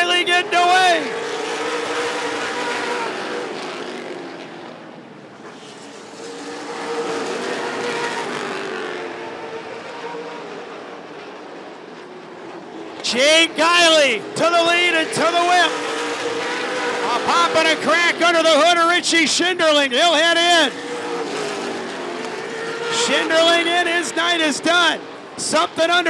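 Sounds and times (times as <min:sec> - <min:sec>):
race car engines running hard: 0:00.0 - 0:26.0.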